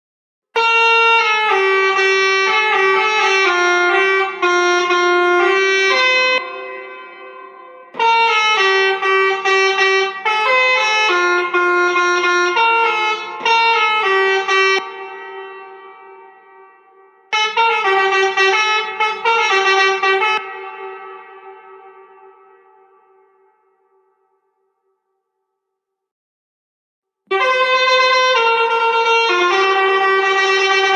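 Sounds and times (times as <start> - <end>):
musical horn playing a tune: 0.6 - 24.2, 27.3 - 30.9.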